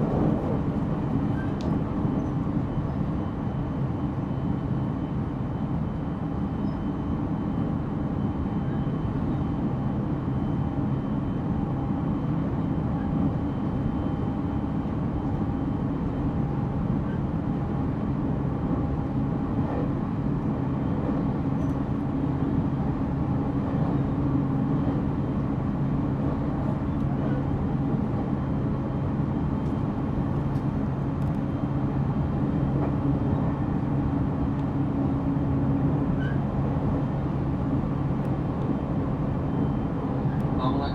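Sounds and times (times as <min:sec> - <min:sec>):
electric train running inside cabin: 0:00.0 - 0:40.9.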